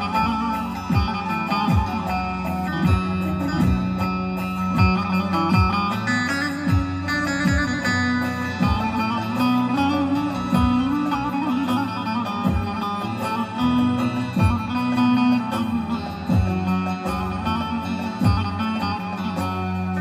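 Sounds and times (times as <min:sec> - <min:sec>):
keyboard accompaniment: 0:00.0 - 0:20.0
plucked long-necked lute: 0:00.0 - 0:20.0.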